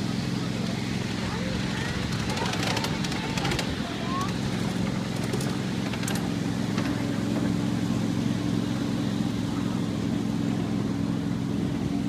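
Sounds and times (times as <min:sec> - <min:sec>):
miniature train engine drone: 0:00.0 - 0:12.0.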